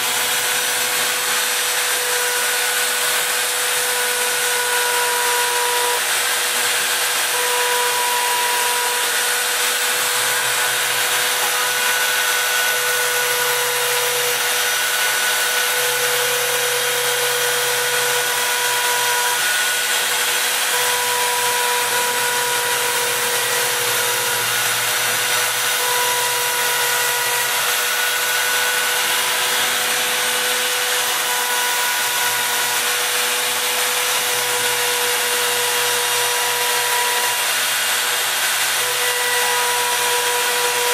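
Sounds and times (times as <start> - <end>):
router spindle whine and hiss: 0.0 - 40.9.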